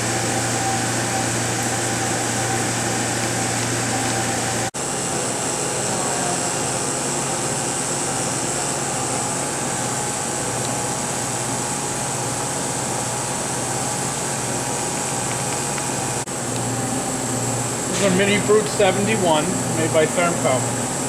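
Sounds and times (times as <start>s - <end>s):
electric cooling fans whirring: 0.0s - 21.0s.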